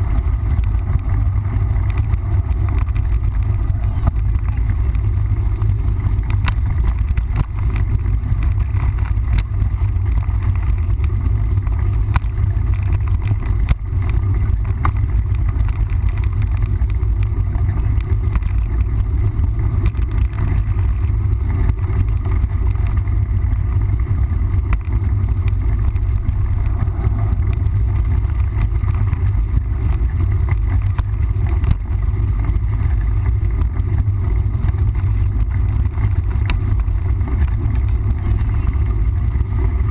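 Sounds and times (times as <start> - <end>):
bike clicks and rattles: 0.0 - 39.9
wind noise on microphone: 0.0 - 39.9.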